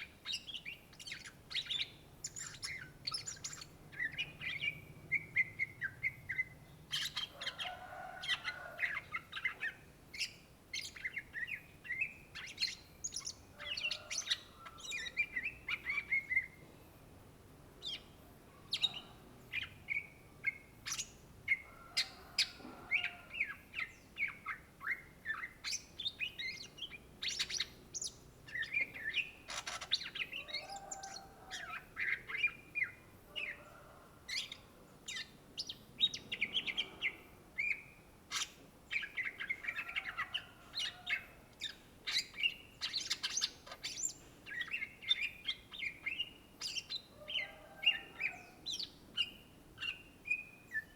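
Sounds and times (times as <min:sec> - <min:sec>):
bird singing chirps and trills: 0:00.0 - 0:16.6, 0:17.8 - 0:50.9.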